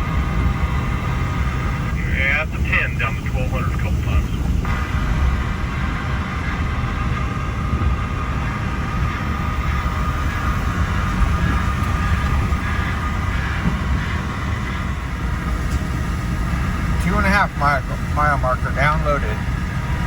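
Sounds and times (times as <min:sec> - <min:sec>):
faint steady whine: 0:00.0 - 0:20.0
truck engine drone: 0:00.0 - 0:20.0
tyre and road noise: 0:00.0 - 0:20.0.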